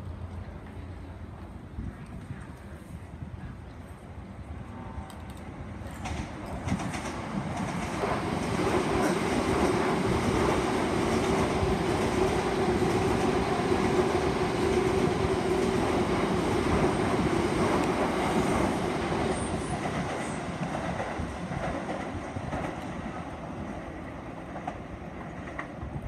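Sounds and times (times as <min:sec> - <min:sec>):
train wheels rumbling on rails: 0:05.1 - 0:26.0.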